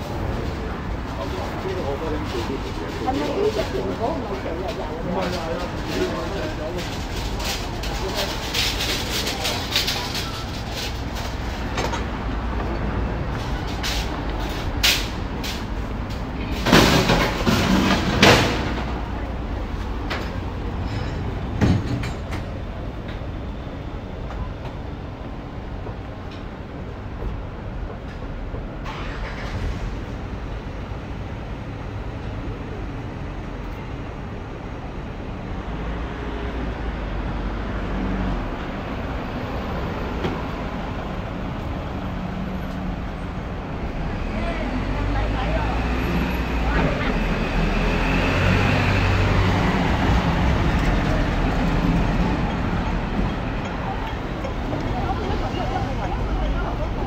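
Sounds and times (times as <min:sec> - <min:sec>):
low rumble of passing vehicles: 0:00.0 - 0:57.0.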